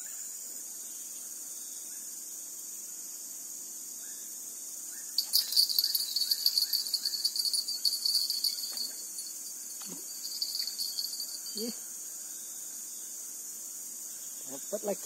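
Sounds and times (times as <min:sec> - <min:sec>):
insects buzzing: 0:00.0 - 0:15.0
cicada fluttering buzz: 0:02.2 - 0:15.0.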